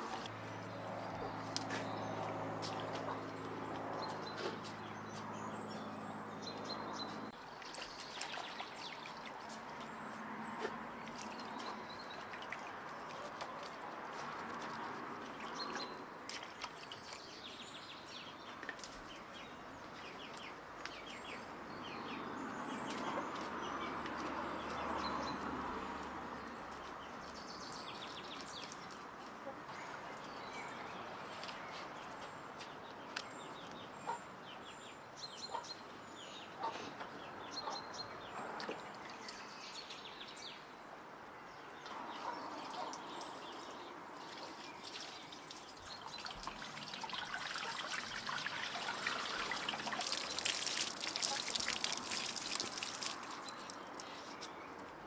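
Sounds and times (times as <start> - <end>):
water splashing and dripping: 0.0 - 5.4, 6.5 - 32.1, 38.2 - 40.5, 41.7 - 55.0
small birds chirping: 0.0 - 40.8, 41.4 - 55.0.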